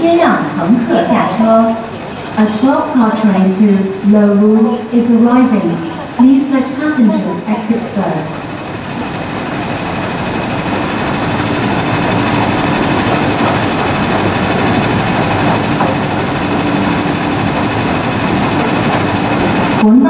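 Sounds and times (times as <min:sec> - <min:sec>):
electric train pulling in: 0:00.0 - 0:20.0
steady hum: 0:00.0 - 0:20.0.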